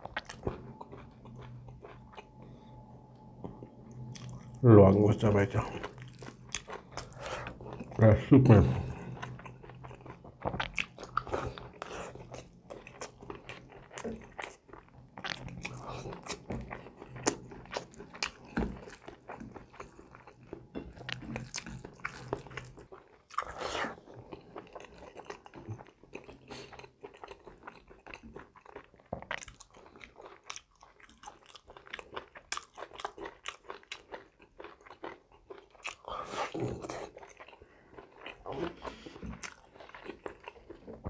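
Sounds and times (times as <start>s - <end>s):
chewing rice and curry: 0.0s - 41.0s.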